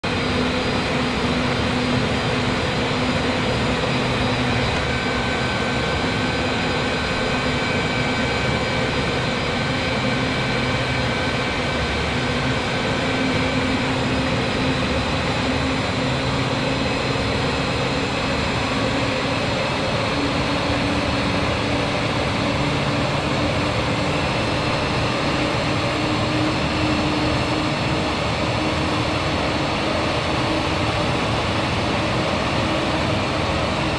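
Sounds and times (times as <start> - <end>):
jet engine and airflow noise: 0.0 - 33.9.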